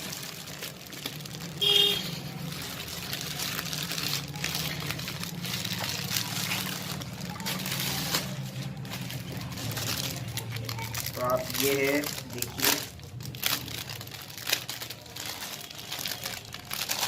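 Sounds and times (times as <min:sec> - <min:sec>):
plastic packaging rustling and tearing: 0:00.0 - 0:17.0.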